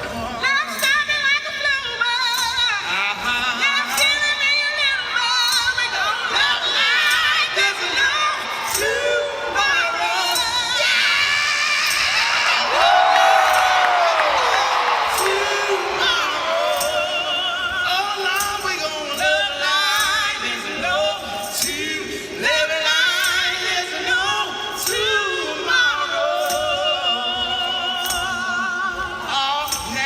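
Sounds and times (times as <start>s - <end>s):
man and woman singing: 0.0s - 30.0s.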